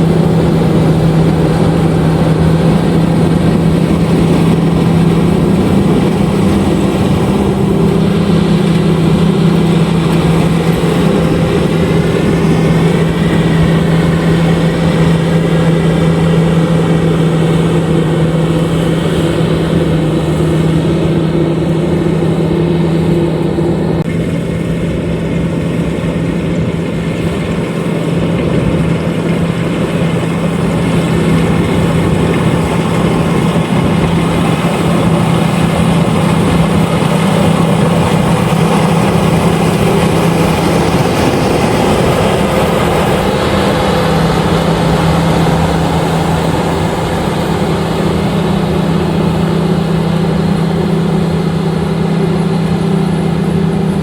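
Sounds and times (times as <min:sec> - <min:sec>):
harvester engine drone: 0:00.0 - 0:54.0
machinery rushing noise: 0:00.0 - 0:54.0.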